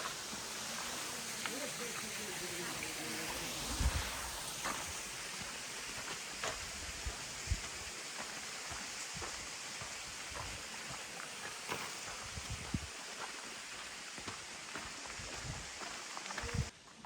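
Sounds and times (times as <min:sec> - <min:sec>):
stream water rushing: 0:00.0 - 0:16.7.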